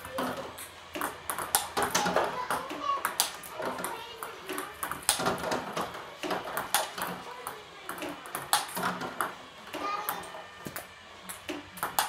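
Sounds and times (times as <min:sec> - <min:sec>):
table tennis ball clicks: 0:00.0 - 0:12.0.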